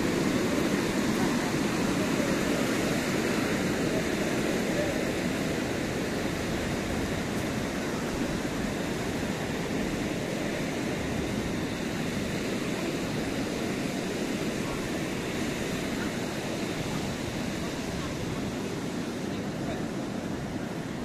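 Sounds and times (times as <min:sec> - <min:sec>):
surf breaking on a beach: 0:00.0 - 0:21.0.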